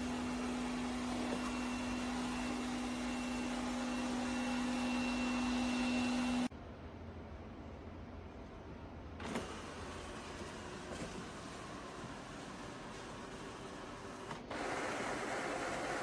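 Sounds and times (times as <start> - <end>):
robot vacuum whirring: 0.0 - 6.5, 9.2 - 16.0.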